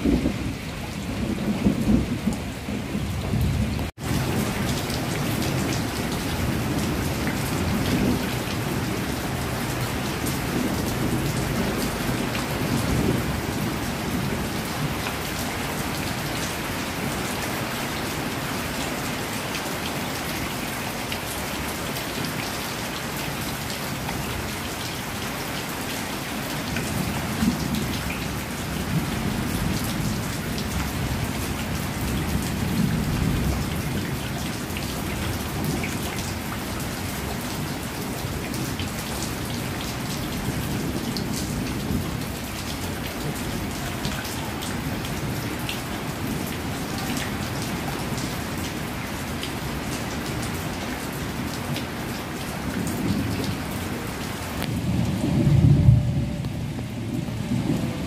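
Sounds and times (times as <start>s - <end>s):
heavy rain on metal roofs: 0.0s - 58.0s
water pouring off eaves: 0.0s - 58.0s.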